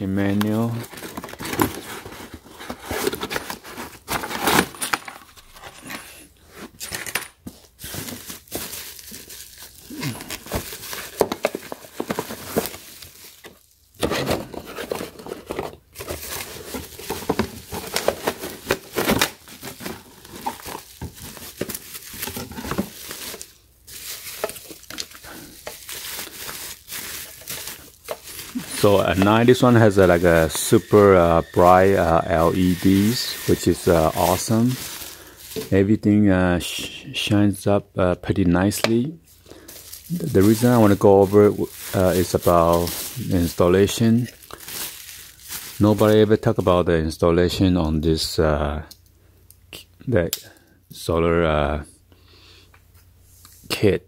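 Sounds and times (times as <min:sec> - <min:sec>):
bubble wrap and cardboard crinkling: 0:00.0 - 0:36.8, 0:38.6 - 0:46.9.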